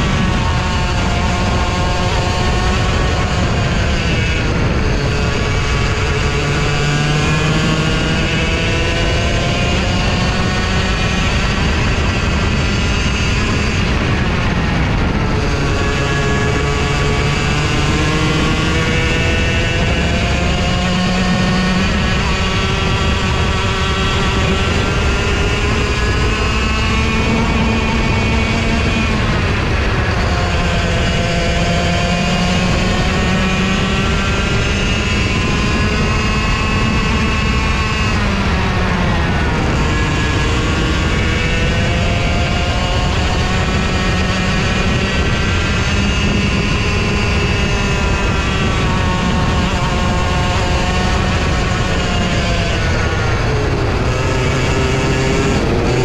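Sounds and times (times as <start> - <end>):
kart engine at full throttle: 0.0 - 56.0.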